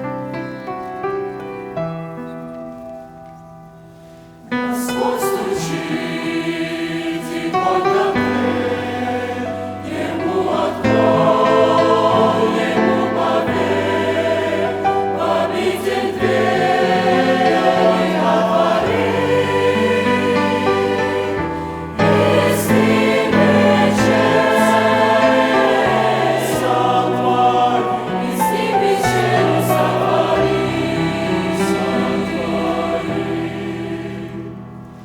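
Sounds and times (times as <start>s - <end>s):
piano: 0.0s - 35.0s
church choir singing a hymn: 4.4s - 35.0s.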